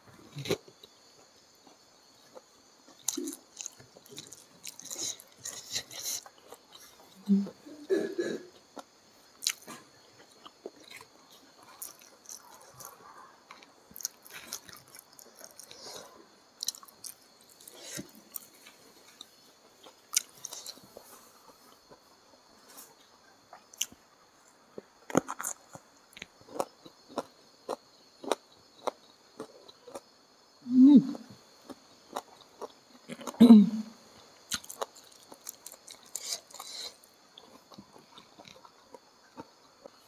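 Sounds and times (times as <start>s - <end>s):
close-up chewing: 1.6s - 7.2s, 8.6s - 24.0s, 24.7s - 30.2s, 31.4s - 33.4s, 34.2s - 40.0s.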